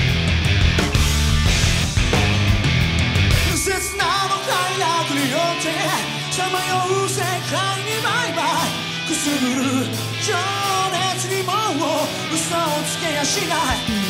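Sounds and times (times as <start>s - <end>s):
rock band playing live: 0.0s - 14.0s
sliding bending guitar melody: 0.0s - 14.0s.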